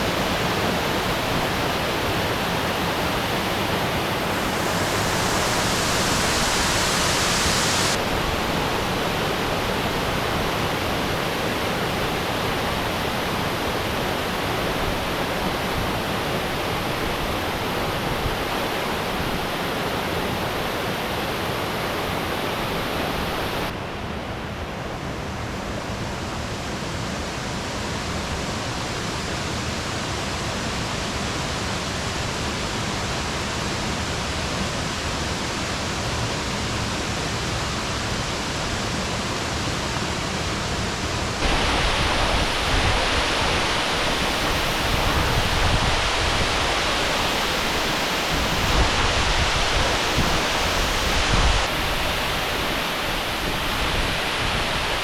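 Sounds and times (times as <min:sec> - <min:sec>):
waterfall and rapids rushing: 0:00.0 - 0:55.0.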